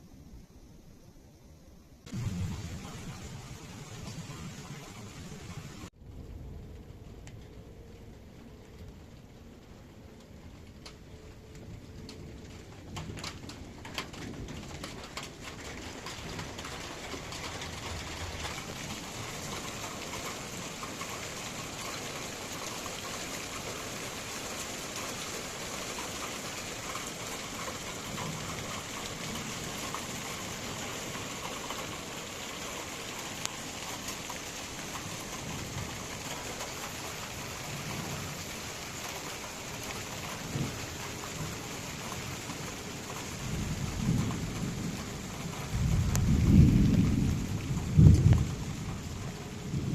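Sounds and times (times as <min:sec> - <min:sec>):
heavy rain falling: 0:02.1 - 0:49.9
thunder rumbling: 0:02.1 - 0:49.9.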